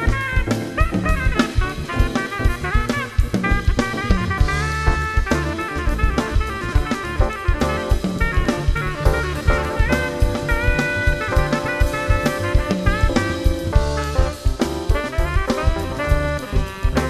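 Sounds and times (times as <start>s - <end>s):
jazz band playing: 0.0s - 17.0s
saxophone melody: 0.0s - 17.0s.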